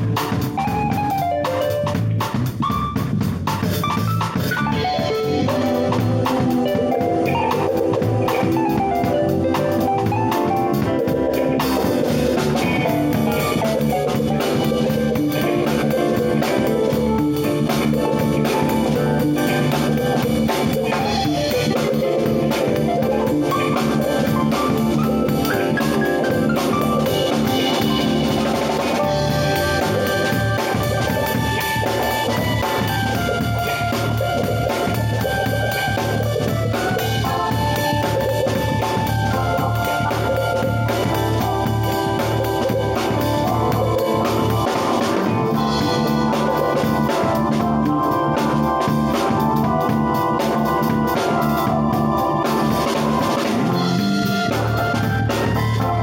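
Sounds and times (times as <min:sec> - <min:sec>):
drums: 0:00.0 - 0:56.0
keyboard ensemble playing jazz-fusion: 0:00.0 - 0:56.0.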